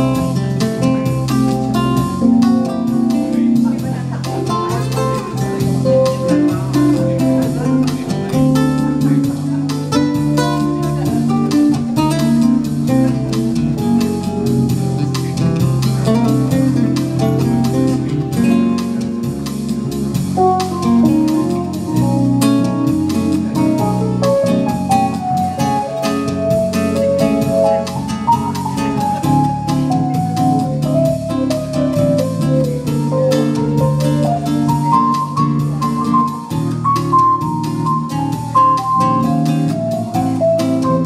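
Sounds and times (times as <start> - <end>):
acoustic guitar picking a melody: 0.0 - 41.0
low keyboard notes: 0.0 - 41.0
steady beat: 0.0 - 41.0.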